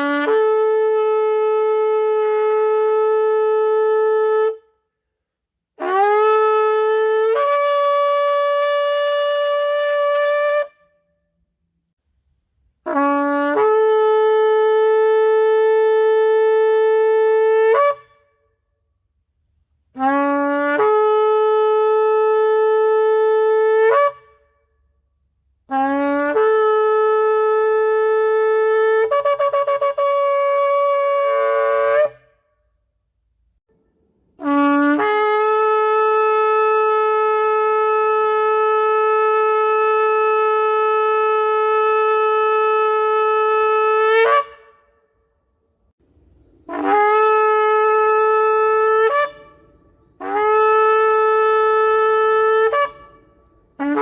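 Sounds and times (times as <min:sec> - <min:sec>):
shofar blasts: 0:00.0 - 0:04.8, 0:05.8 - 0:11.2, 0:12.8 - 0:18.5, 0:19.9 - 0:24.6, 0:25.7 - 0:32.6, 0:34.4 - 0:45.2, 0:46.6 - 0:54.0.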